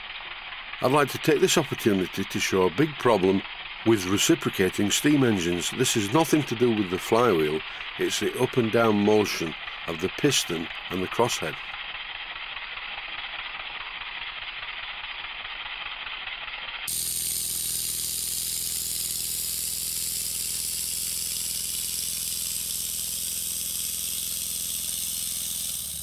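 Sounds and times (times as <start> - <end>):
model steam engine hissing: 0.2 - 26.0.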